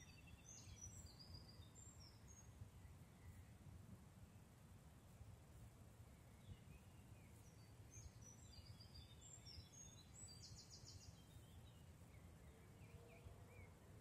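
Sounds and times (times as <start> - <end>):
songbird chirps and whistles: 0.0 - 3.5, 6.1 - 13.8.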